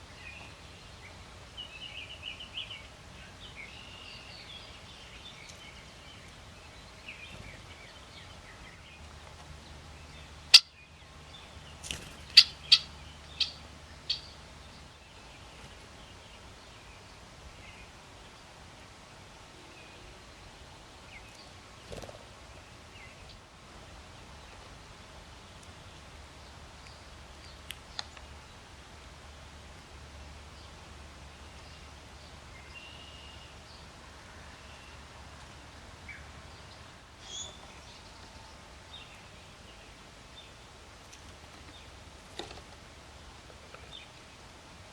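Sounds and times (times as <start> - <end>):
birds chirping faintly: 0.0 - 44.9.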